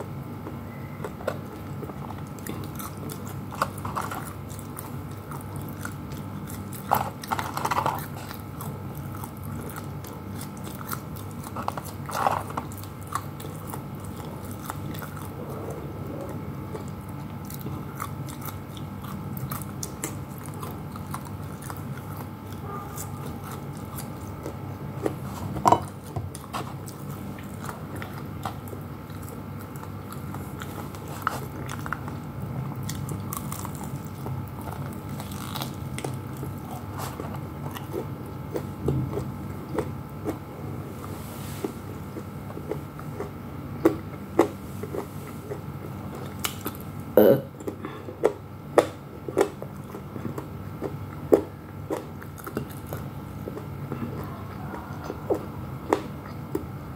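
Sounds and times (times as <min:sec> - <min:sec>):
chewing crunchy food: 0:00.0 - 0:56.9
steady low hum: 0:00.0 - 0:56.9.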